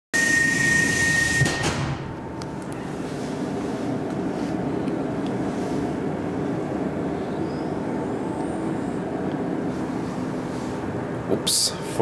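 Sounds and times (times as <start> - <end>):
train equipment hum and rush: 0.2 - 12.0.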